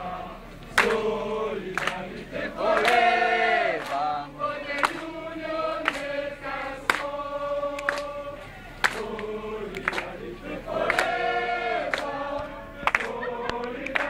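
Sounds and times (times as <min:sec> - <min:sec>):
group singing: 0:00.0 - 0:14.0.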